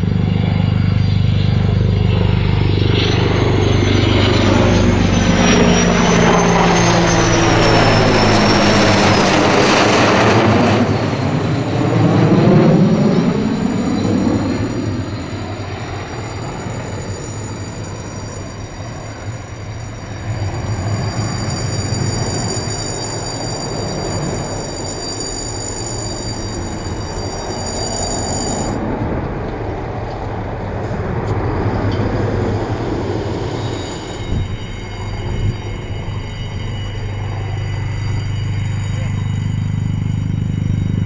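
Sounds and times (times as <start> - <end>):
helicopter rotor: 0.0 - 41.0
high whine: 0.0 - 41.0
jet roar: 0.0 - 41.0.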